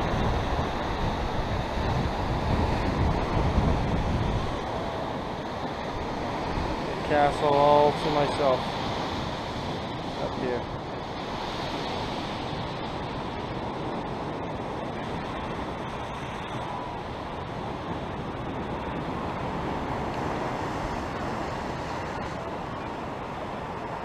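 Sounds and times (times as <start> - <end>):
wind rushing on microphone: 0.0 - 24.0.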